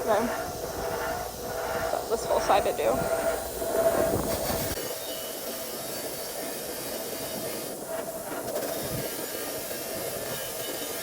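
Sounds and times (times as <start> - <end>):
steady hiss of rushing air: 0.0 - 11.0.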